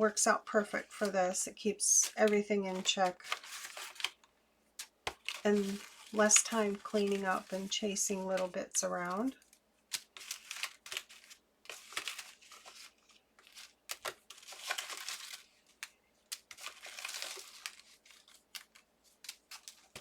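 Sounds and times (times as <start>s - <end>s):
paper rustling and crinkling: 0.6s - 20.0s.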